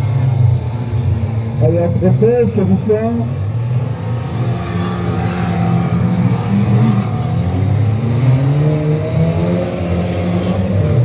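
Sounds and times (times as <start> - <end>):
stock car engines racing: 0.0 - 11.0.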